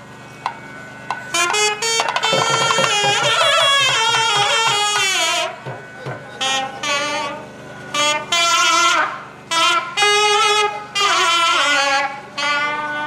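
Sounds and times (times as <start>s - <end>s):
reed horn playing ornamented melody: 0.8s - 5.6s, 6.4s - 13.0s.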